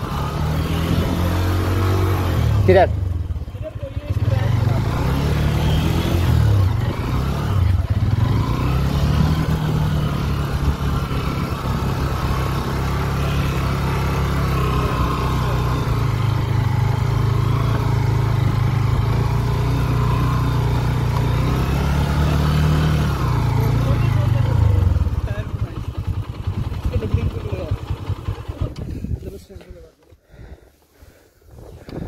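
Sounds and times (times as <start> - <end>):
motorcycle engine running: 0.0 - 29.3.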